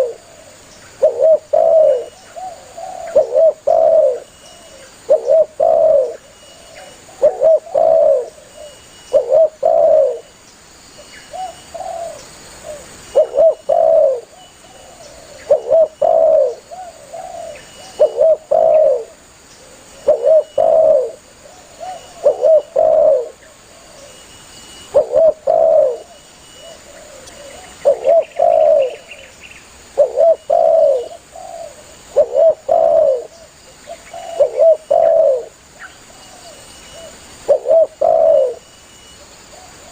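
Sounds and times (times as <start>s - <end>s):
dove cooing: 0.0s - 10.3s, 11.3s - 29.3s, 29.9s - 38.6s.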